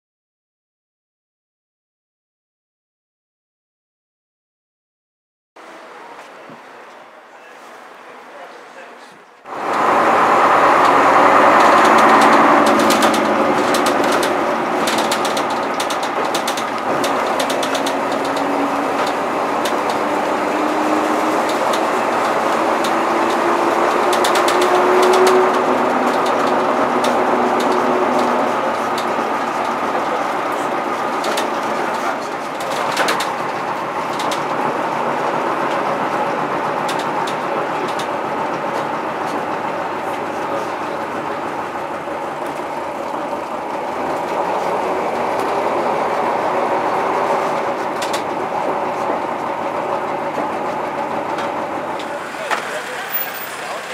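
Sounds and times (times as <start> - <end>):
diesel bus engine pulling: 5.6 - 53.9
rattle of bus body: 9.5 - 53.9.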